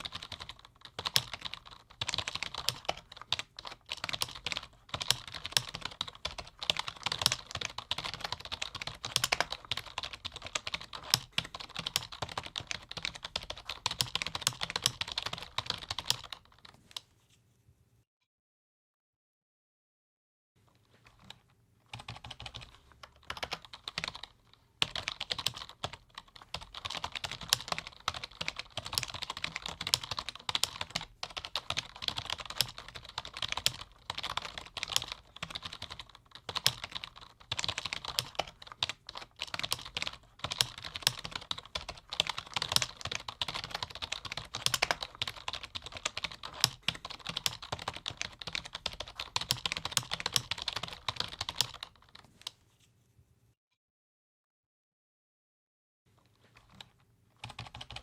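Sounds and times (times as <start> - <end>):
fast typing on keyboard: 0.0 - 16.7, 21.0 - 52.2, 56.5 - 58.0.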